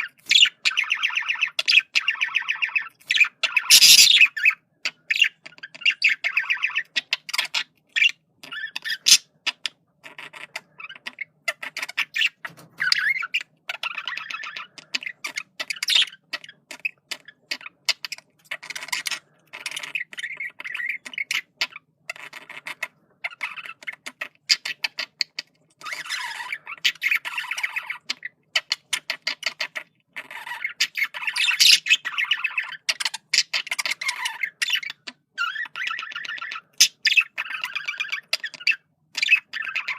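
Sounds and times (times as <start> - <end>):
budgerigar warbling and chattering: 0.0 - 39.9.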